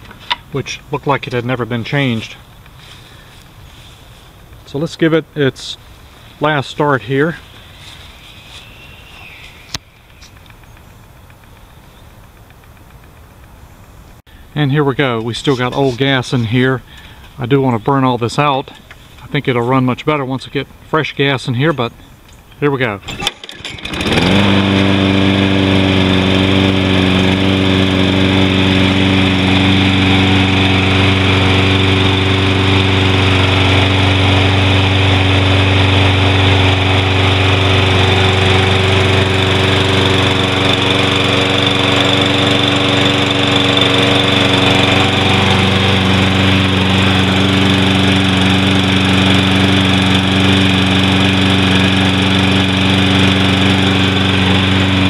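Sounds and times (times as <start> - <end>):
lawn mower engine starting and running: 0.0 - 55.0.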